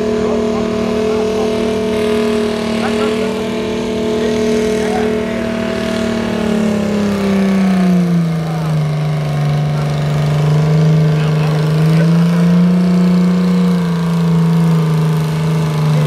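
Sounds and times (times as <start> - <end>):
tractor diesel engine working hard: 0.0 - 16.0.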